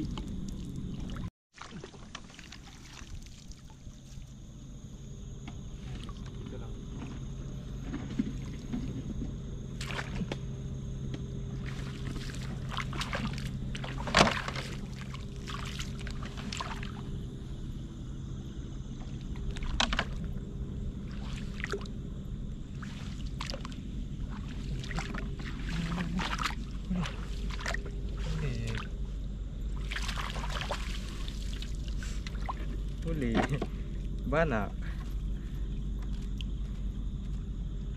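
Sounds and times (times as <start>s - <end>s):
seawater splashing and sloshing: 0.0s - 4.6s, 5.6s - 9.2s, 9.8s - 10.4s, 11.5s - 17.3s, 18.9s - 36.8s
steady low hum: 0.0s - 37.9s.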